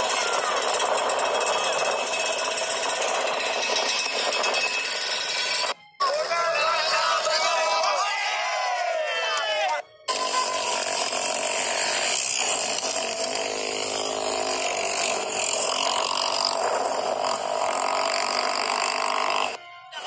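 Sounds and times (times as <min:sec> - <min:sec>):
scooter engines revving: 0:00.0 - 0:06.2, 0:10.1 - 0:20.0.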